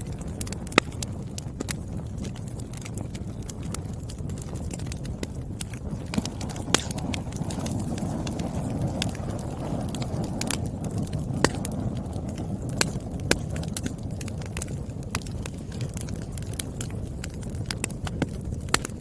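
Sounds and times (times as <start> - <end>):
logs crackling and popping: 0.0 - 19.0
wood fire burning: 0.0 - 19.0.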